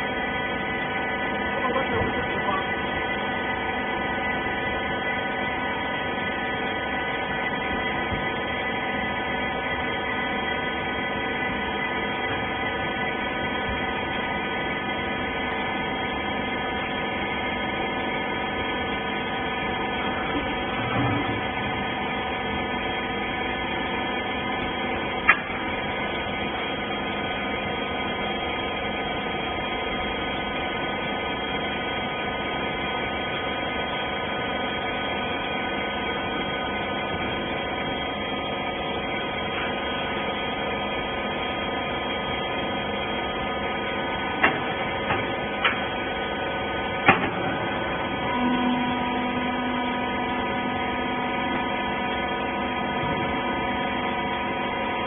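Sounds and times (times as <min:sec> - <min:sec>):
hydraulic power unit humming: 0:00.0 - 0:55.0.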